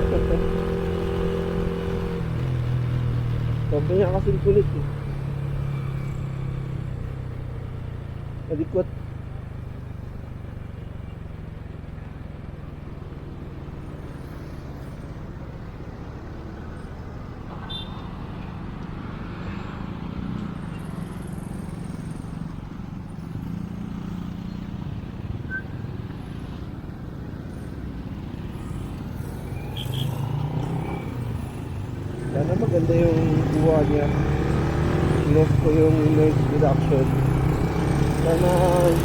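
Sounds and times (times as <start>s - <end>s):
vehicle engine hum: 0.0s - 39.0s.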